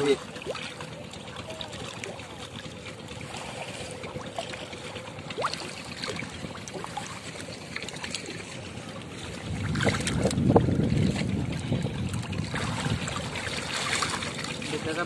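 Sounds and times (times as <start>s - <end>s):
muddy water sloshing: 0.0s - 15.0s.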